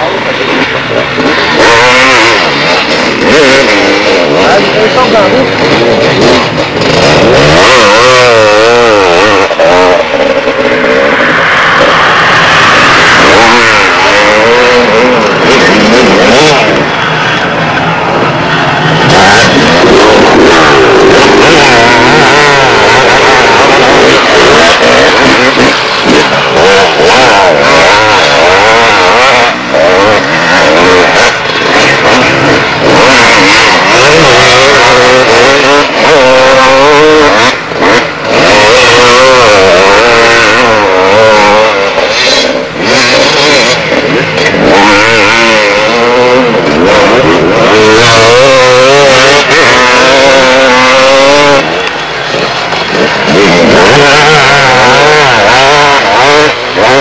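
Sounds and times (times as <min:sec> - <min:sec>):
two-stroke motocross bikes revving: 0:00.0 - 0:57.0.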